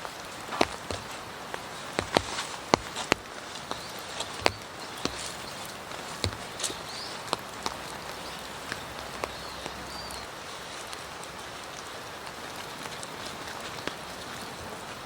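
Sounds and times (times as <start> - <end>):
raindrops tapping sharply: 0.0 - 15.0
steady rain hissing: 0.0 - 15.0.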